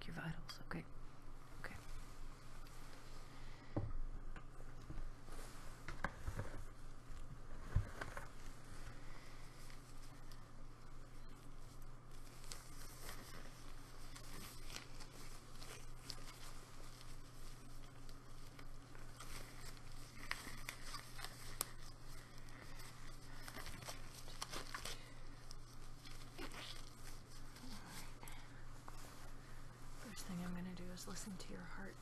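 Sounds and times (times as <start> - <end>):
rubber gloves crinkling: 1.2 - 32.0.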